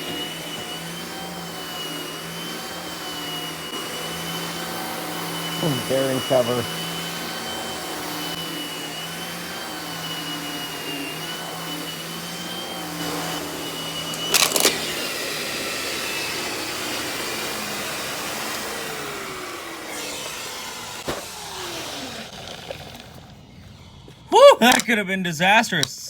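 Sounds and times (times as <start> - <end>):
vacuum cleaner motor drone: 0.0 - 24.3.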